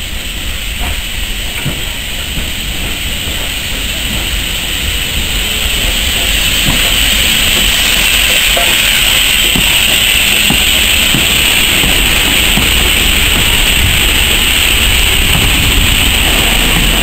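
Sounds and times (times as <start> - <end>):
steam locomotive hiss and rumble: 0.0 - 17.0.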